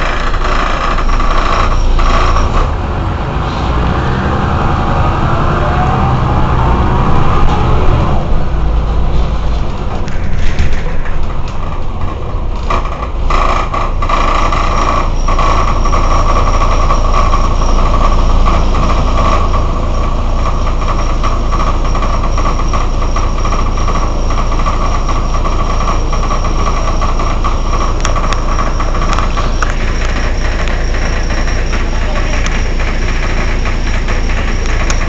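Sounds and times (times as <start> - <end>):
bus engine idling: 0.0 - 35.0
high engine whine: 0.0 - 35.0.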